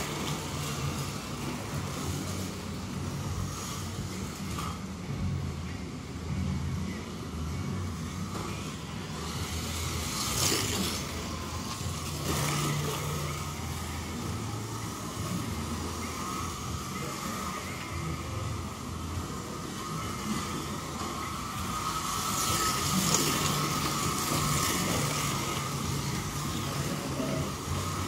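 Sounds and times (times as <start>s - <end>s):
slot car motors whining: 0.0s - 28.0s.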